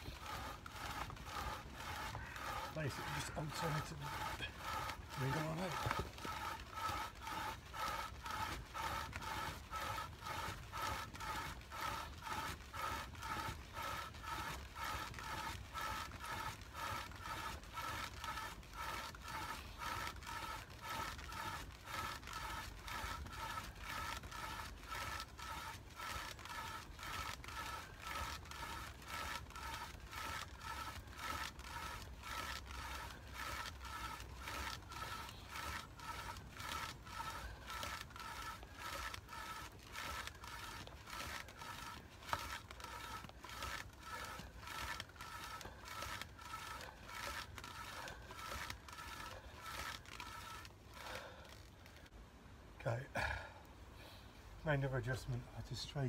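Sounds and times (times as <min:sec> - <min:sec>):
wooden spindle squeaky scraping: 0:00.0 - 0:52.1.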